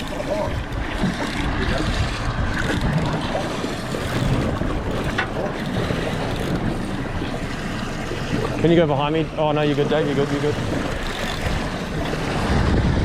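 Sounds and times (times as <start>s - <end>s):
wind buffeting microphone: 0.0s - 9.4s, 10.2s - 13.0s
boat engine rumble: 0.0s - 13.0s.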